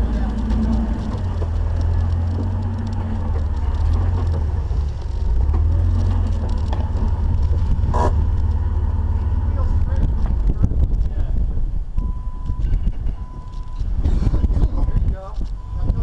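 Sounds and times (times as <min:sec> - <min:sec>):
off-road vehicle engine rumble: 0:00.0 - 0:16.0.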